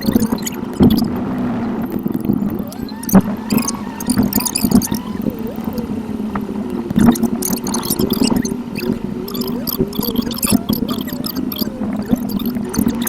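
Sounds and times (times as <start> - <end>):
rapid high ticks: 0.0 - 13.0
sped-up car road noise drone: 0.0 - 13.0.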